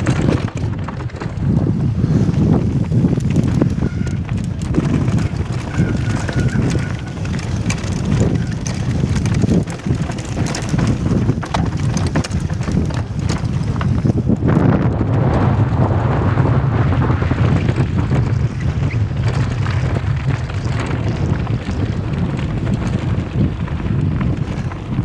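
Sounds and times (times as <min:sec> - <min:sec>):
bike rattling over stones: 0:00.0 - 0:25.0
wind rumble on microphone: 0:00.0 - 0:25.0.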